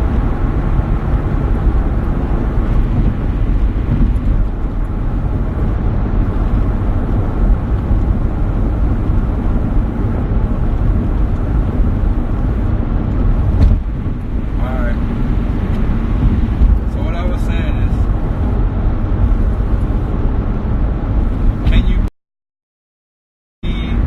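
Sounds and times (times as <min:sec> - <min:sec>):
loud low rumbling: 0:00.0 - 0:22.1.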